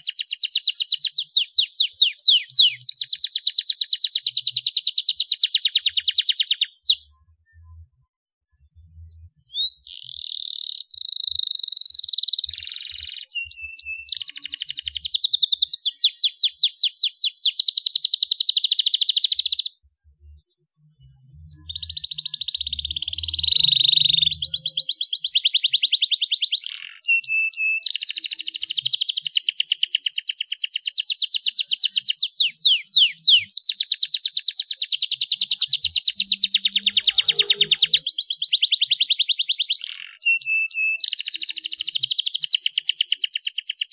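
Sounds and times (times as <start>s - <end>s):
canary singing trills: 0.0s - 7.8s, 8.7s - 43.9s.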